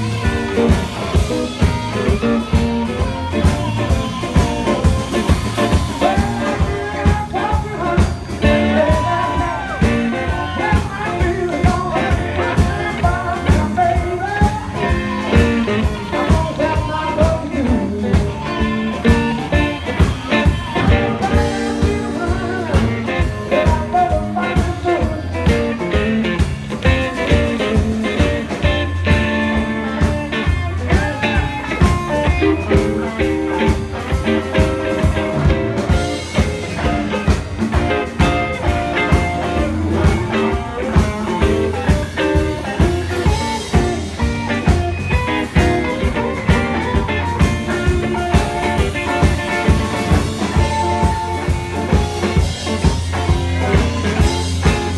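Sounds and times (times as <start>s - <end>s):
drums keeping a steady beat: 0.0s - 54.9s
electric guitar: 0.0s - 54.9s
person singing: 0.0s - 54.9s.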